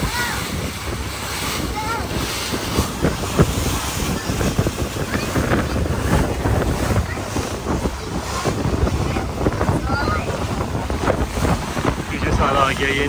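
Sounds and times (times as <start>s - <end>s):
gusty thumps: 0.0s - 13.0s
low rumble of boat: 0.0s - 13.0s
wind buffeting microphone: 0.0s - 13.0s.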